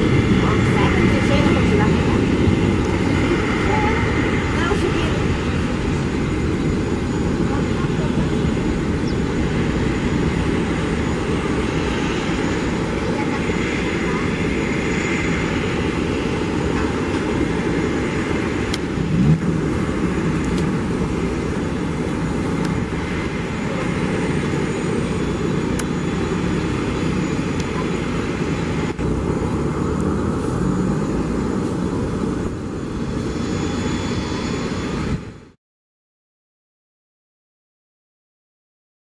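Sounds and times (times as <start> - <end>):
jet engines taxiing: 0.0 - 35.6.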